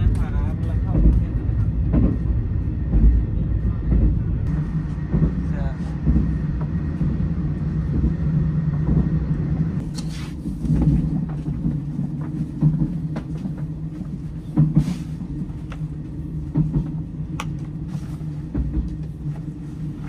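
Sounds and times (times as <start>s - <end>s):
train carriage low rumble: 0.0s - 20.0s.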